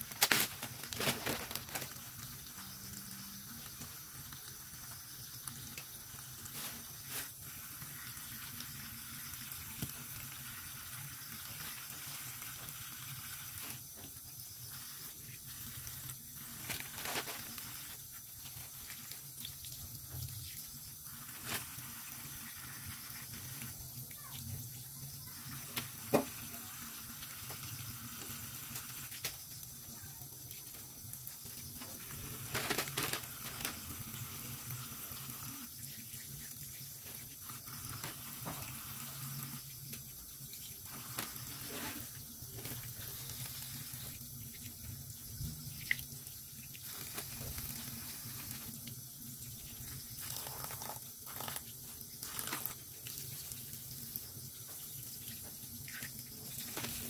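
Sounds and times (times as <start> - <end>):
tap water running into sink: 1.4 - 57.0.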